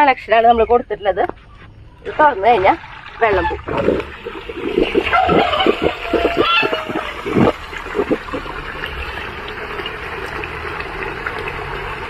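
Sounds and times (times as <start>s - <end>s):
water pouring from drain: 2.0s - 12.0s.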